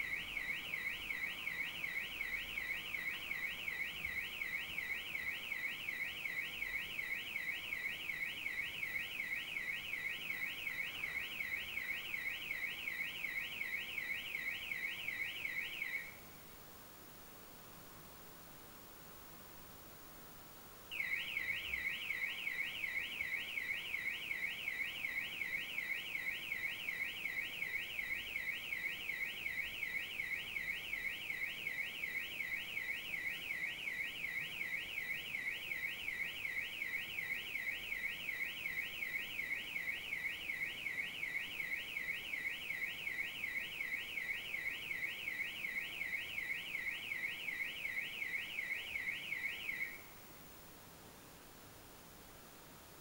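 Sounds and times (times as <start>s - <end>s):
car alarm siren warbling: 0.0s - 16.2s, 20.9s - 50.0s.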